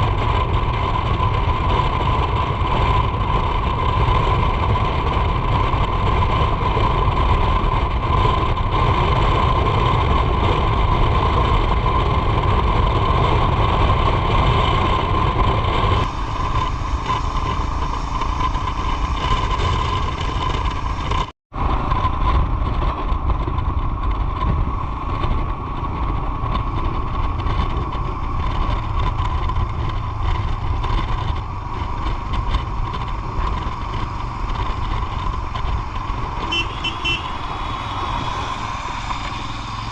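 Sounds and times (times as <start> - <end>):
motorcycle engine: 0.0 - 39.9
wind buffeting on microphone: 0.0 - 39.9.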